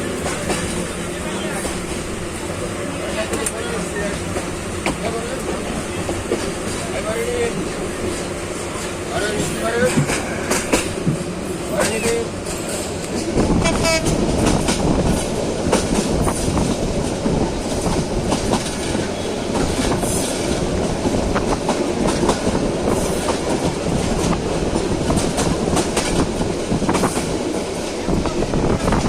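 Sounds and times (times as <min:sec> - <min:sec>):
train rumbling and rattling: 0:00.0 - 0:29.0
train wheels clickety-clack: 0:00.0 - 0:29.0.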